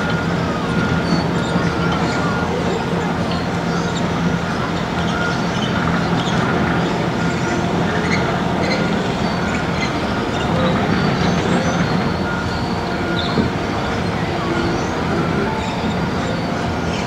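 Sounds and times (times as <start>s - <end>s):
moving vehicle rumble: 0.0s - 17.0s.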